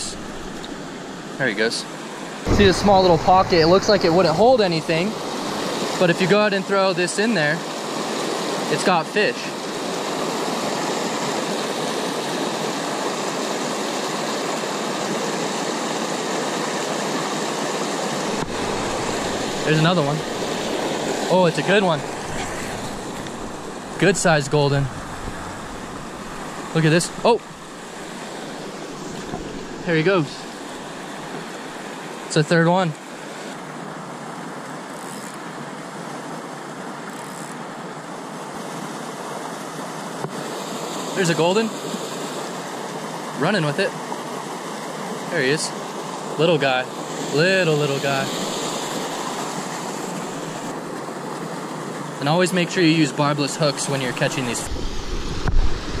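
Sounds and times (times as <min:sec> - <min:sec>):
water rushing over boulders: 0:00.0 - 0:34.9, 0:37.6 - 0:56.0.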